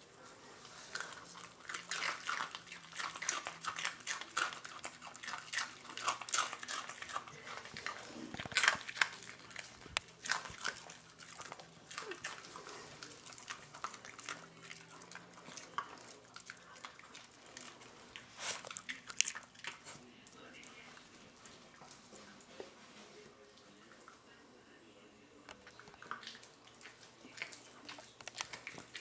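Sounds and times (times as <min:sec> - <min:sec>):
dog crunching cereal: 0:00.6 - 0:22.1, 0:25.6 - 0:29.0.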